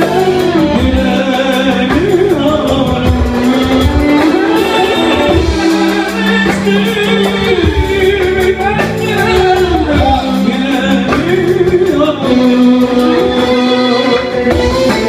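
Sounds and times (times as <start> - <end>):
accompanying instruments: 0.0 - 15.0
man singing: 0.0 - 15.0.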